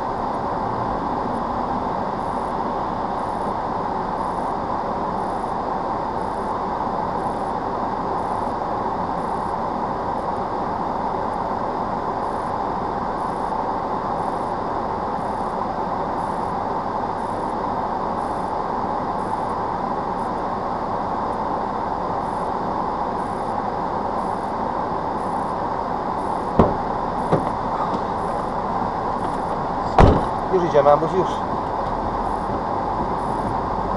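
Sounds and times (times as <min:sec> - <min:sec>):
faint high-pitched pulses: 0:00.0 - 0:10.5, 0:11.2 - 0:33.9
steady noise inside lorry cab: 0:00.0 - 0:33.9.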